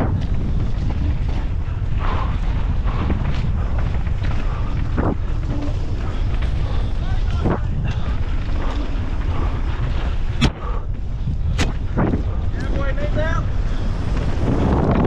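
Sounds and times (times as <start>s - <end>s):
bike tyres scraping and rattling: 0.0s - 15.0s
low rumble: 0.0s - 15.0s
wind rush on microphone: 0.0s - 15.0s.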